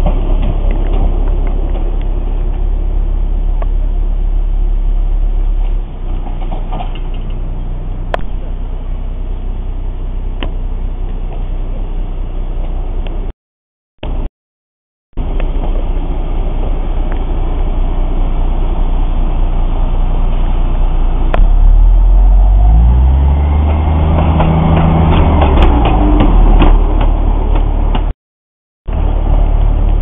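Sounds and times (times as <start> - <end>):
diesel locomotive engine running: 0.0 - 13.3, 15.2 - 28.1, 28.9 - 30.0.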